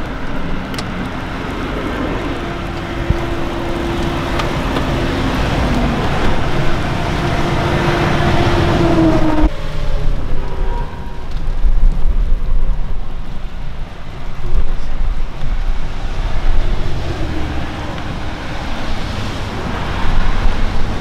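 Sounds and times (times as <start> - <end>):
road noise: 0.0 - 21.0
vehicle engine hum: 0.0 - 21.0
wind buffeting microphone: 0.0 - 21.0.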